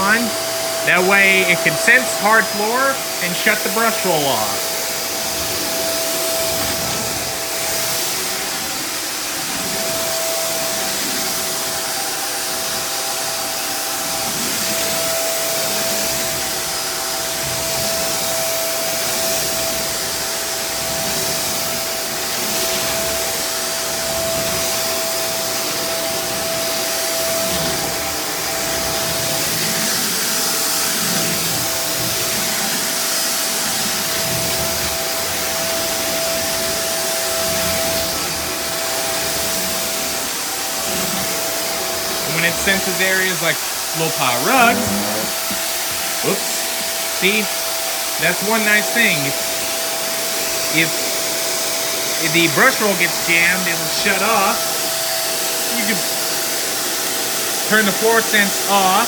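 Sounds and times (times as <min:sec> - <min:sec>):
upright vacuum running: 0:00.0 - 0:59.0.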